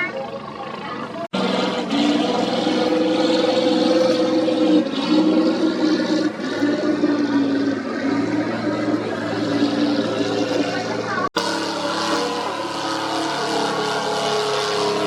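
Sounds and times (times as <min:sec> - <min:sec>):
racing boat engines: 0:00.0 - 0:15.0
rushing water and spray: 0:01.4 - 0:15.0.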